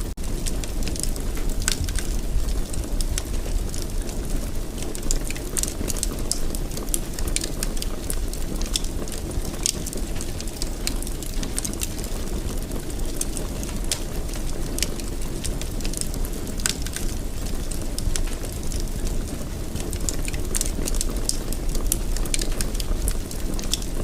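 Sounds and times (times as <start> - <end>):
fire low rumble: 0.0 - 24.0
wood fire crackling and popping: 0.0 - 24.0.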